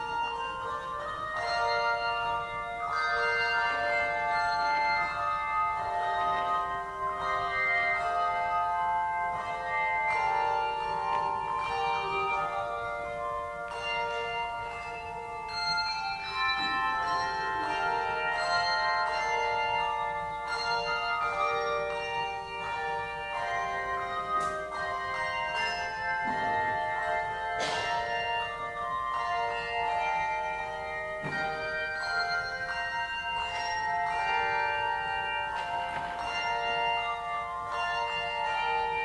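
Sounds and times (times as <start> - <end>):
bells playing a tune: 0.0 - 39.0.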